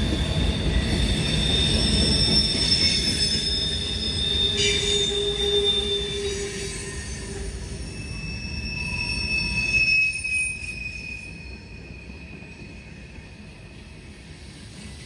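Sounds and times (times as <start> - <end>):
low rumble of train cars: 0.0 - 15.0
train wheels squealing on rail: 0.0 - 15.0.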